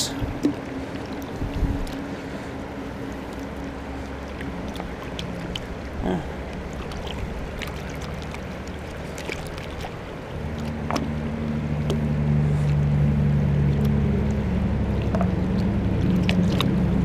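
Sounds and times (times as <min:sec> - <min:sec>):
creek water rushing and splashing: 0:00.0 - 0:17.0.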